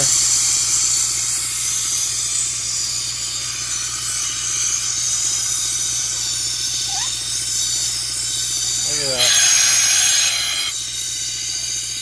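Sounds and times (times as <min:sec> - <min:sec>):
compressed air hissing: 0:00.0 - 0:11.9.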